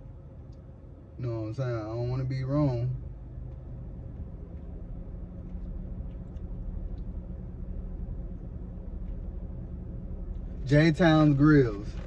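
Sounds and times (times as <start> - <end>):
low hum inside car cabin: 0.0 - 12.0.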